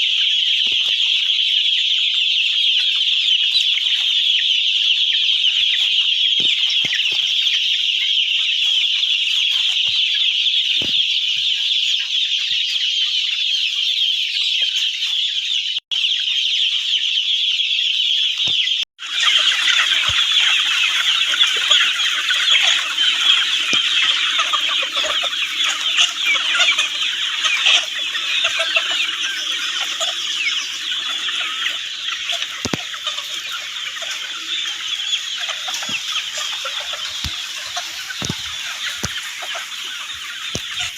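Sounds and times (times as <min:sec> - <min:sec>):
flock of chickens clucking: 0:00.0 - 0:40.9.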